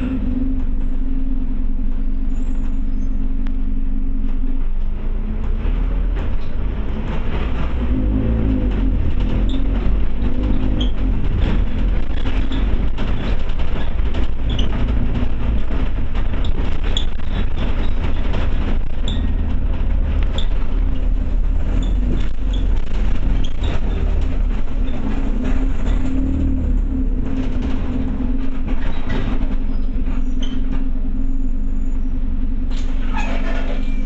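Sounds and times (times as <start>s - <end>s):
bus diesel engine running: 0.0s - 34.0s
road noise: 0.0s - 34.0s
bodywork rattles and squeaks: 5.5s - 34.0s.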